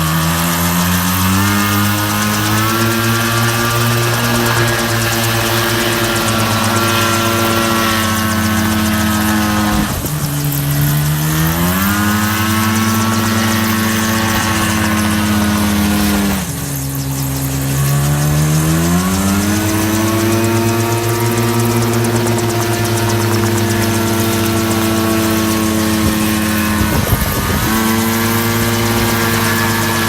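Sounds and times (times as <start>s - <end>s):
small engine revving: 0.0s - 30.0s.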